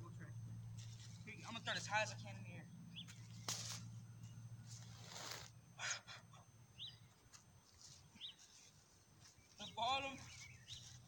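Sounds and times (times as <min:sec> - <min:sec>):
bird chirping: 0:00.4 - 0:05.0, 0:06.6 - 0:11.0.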